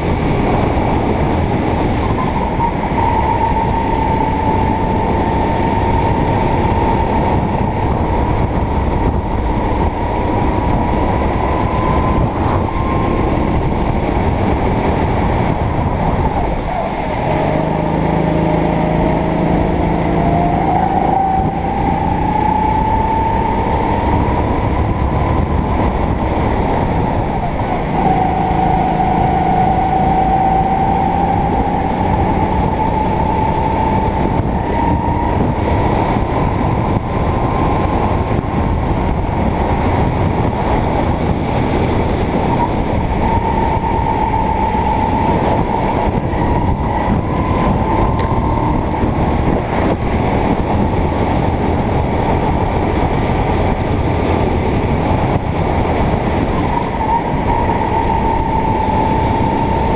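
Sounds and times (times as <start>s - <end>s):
kart engine running hard: 0.0s - 59.9s.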